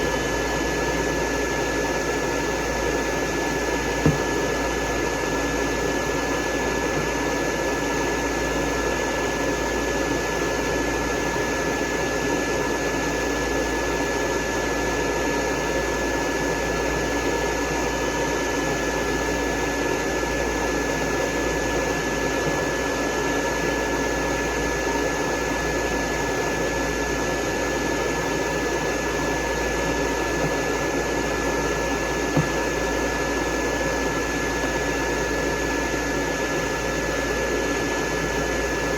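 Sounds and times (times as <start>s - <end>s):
dryer blowing air: 0.0s - 38.9s.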